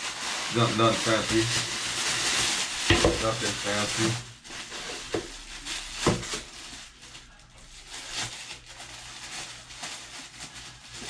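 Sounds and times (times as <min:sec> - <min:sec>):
plastic wrapping rustling and crinkling: 0:00.0 - 0:11.0.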